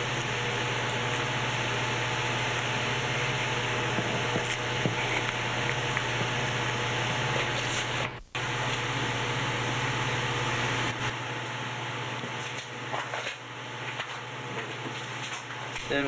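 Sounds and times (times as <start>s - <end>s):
tape hiss with low hum: 0.0s - 16.0s.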